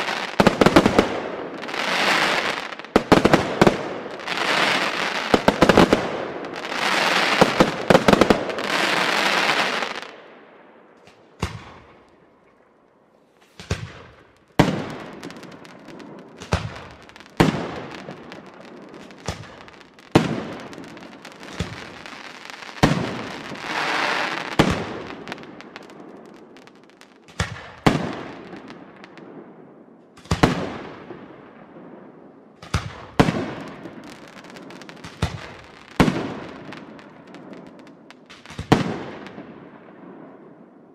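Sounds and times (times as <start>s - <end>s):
fireworks crackling: 0.0s - 10.1s, 13.4s - 29.3s, 32.6s - 40.4s.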